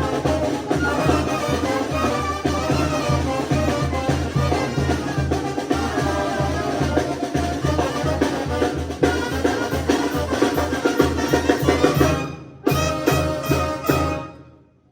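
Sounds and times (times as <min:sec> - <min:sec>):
brass band with drums: 0:00.0 - 0:14.7.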